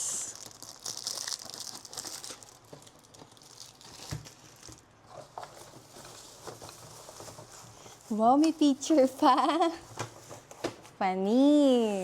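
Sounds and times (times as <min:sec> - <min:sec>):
packaging crinkling and rustling: 0:00.1 - 0:11.0.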